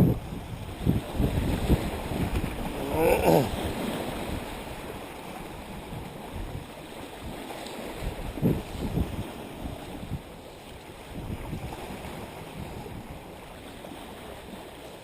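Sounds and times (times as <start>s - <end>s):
wind buffeting microphone: 0.0s - 13.5s
water noise: 0.0s - 15.0s.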